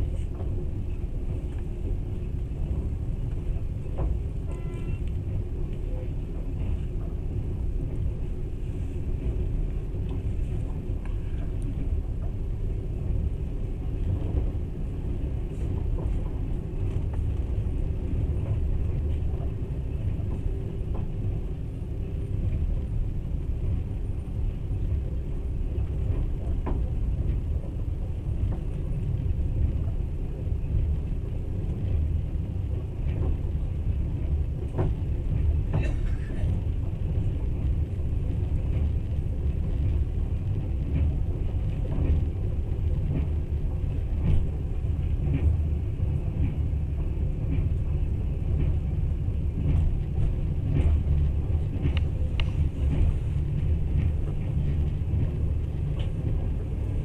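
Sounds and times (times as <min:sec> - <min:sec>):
train carriage rumbling on rails: 0:00.0 - 0:57.0.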